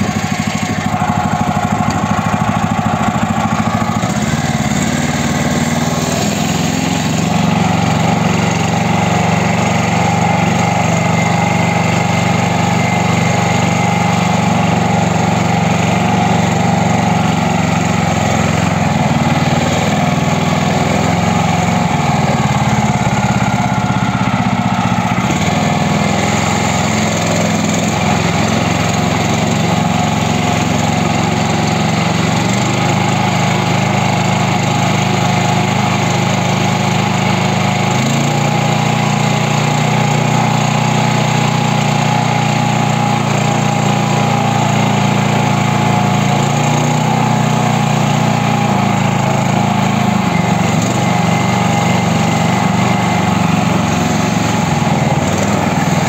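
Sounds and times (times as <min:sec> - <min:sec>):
mini tractor engine running: 0:00.0 - 0:56.0.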